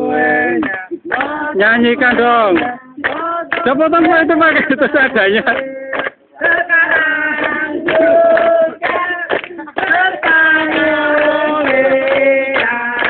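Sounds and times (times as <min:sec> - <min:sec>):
teenagers singing together: 0:00.0 - 0:13.0.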